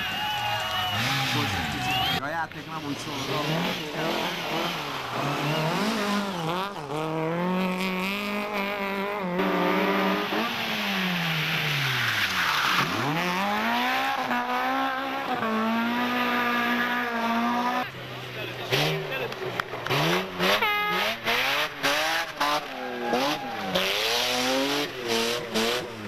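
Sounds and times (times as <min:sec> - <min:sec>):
rally car engine revving: 0:00.4 - 0:26.0.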